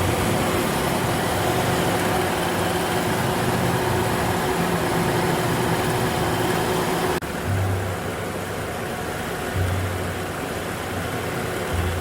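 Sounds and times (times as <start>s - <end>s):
car idling with fan running: 0.0s - 12.0s.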